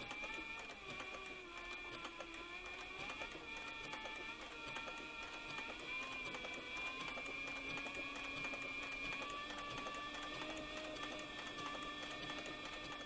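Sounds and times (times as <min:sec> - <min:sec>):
stitching machine sewing leather: 0:00.0 - 0:13.0.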